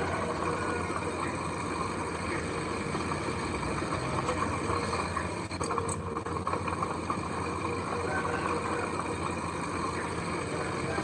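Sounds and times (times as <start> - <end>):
diesel construction machine engine: 0.0 - 11.0.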